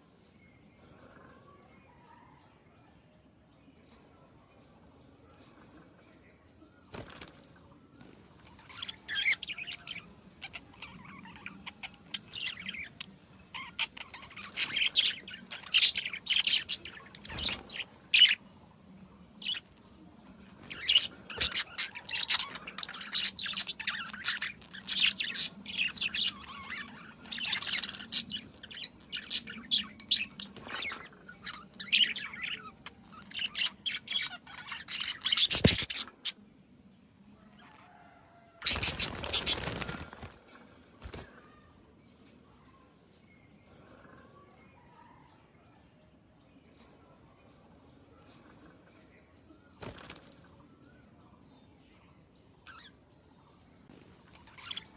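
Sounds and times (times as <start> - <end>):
small birds chirping: 3.4 - 54.9.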